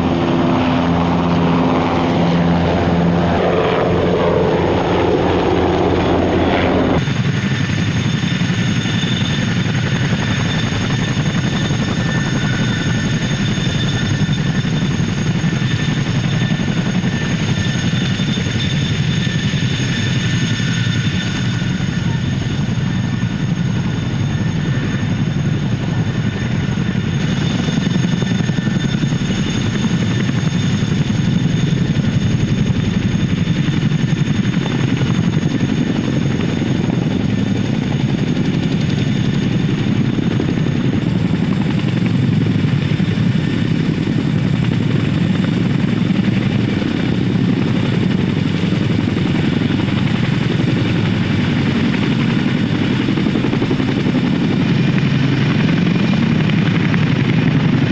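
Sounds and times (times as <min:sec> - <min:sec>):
helicopter rotor noise: 0:00.0 - 0:57.9
turbine engine whine: 0:00.0 - 0:57.9.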